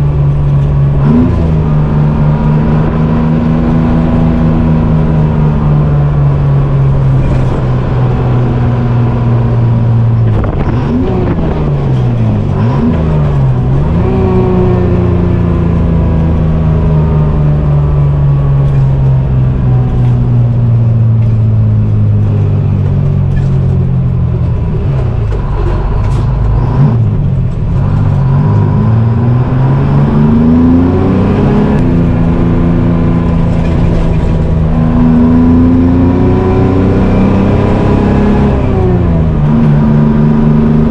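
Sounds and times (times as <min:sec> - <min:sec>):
diesel truck engine under load: 0:00.0 - 0:40.9.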